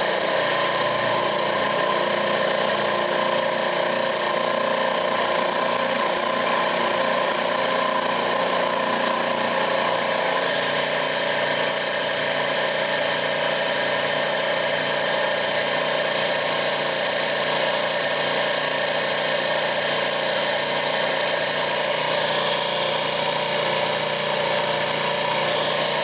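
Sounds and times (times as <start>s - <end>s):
hydraulic press humming: 0.0s - 17.5s, 19.8s - 26.0s.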